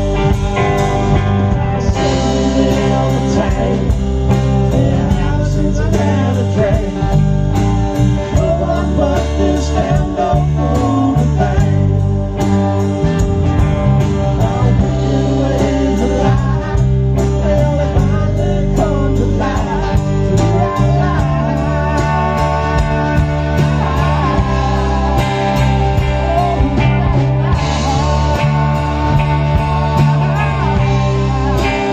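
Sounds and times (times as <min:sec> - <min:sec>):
bass guitar: 0:00.0 - 0:31.9
drum kit beat: 0:00.0 - 0:31.9
electric guitars: 0:00.0 - 0:31.9.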